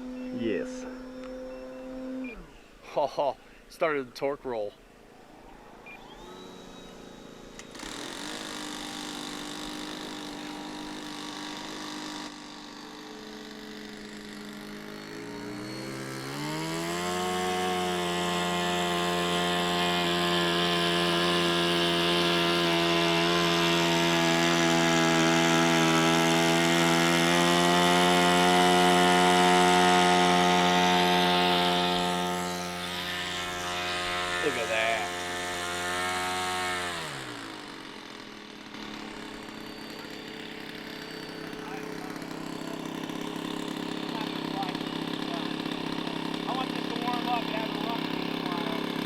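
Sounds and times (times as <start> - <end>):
model plane motor whining: 0.0 - 2.8, 6.0 - 49.0.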